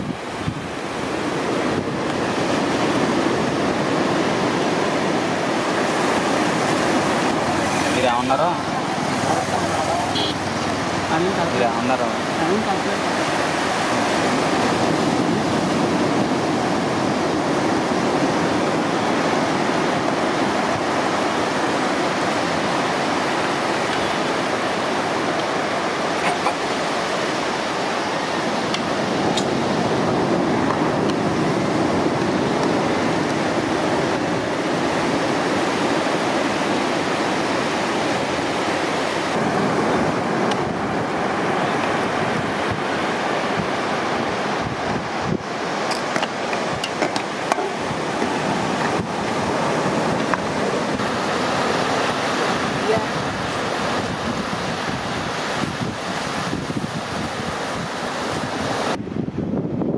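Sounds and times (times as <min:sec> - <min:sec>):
sea surf and waves rushing: 0:00.0 - 0:59.9.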